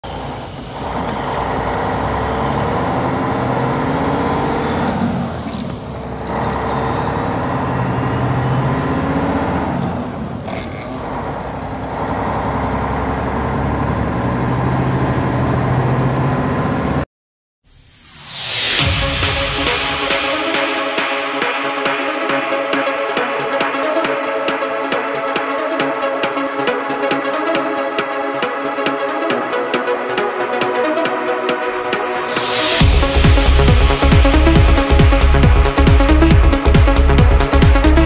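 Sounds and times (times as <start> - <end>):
diesel truck engine running: 0.0 - 17.1, 18.8 - 38.0.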